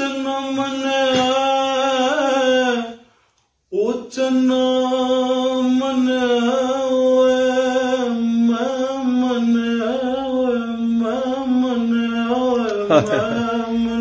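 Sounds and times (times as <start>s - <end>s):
man singing unaccompanied: 0.0s - 3.1s, 3.7s - 14.0s.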